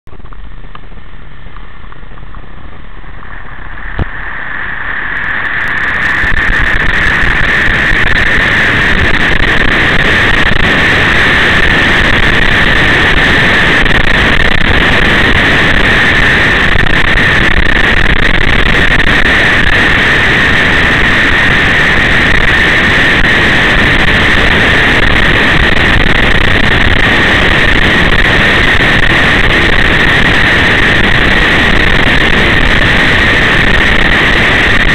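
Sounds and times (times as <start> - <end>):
vehicle engine and wind noise: 0.0 - 34.9.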